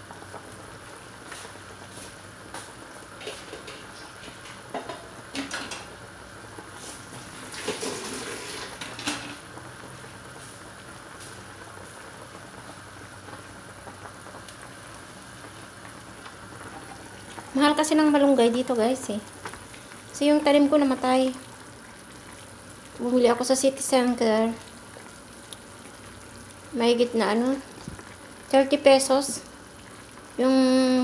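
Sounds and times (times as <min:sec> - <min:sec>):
broth bubbling at a boil: 0:00.0 - 0:31.0.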